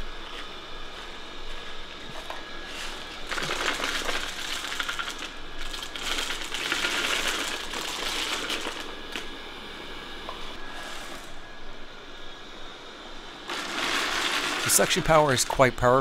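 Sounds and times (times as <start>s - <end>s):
robot vacuum humming: 0.0s - 16.0s.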